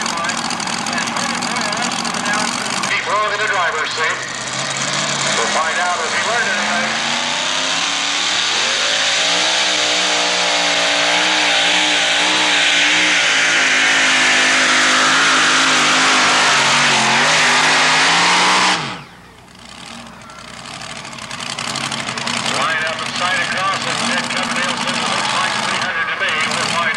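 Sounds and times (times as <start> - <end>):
engine cutting off and winding down: 0.0 - 26.9
truck engine at full throttle: 0.0 - 26.9.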